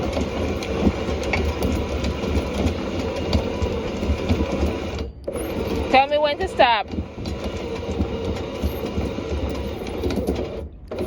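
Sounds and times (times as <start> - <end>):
chain links clanking: 0.0 - 11.0
windlass motor running: 0.0 - 11.0.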